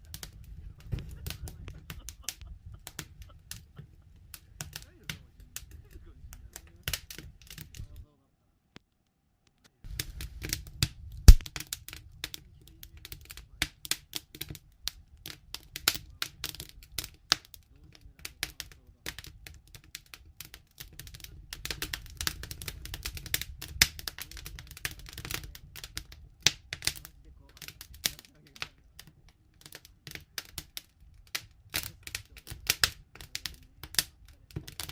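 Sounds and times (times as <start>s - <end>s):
sharp pops from fire: 0.0s - 8.0s, 8.8s - 34.9s
campfire crackling: 0.0s - 8.1s, 8.8s - 34.9s.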